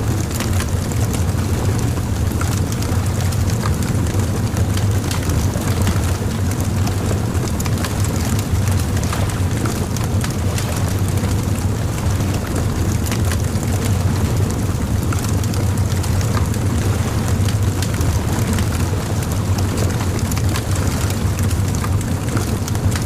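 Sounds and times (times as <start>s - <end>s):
fire low rumble: 0.0s - 23.0s
bonfire crackling and popping: 0.1s - 23.0s.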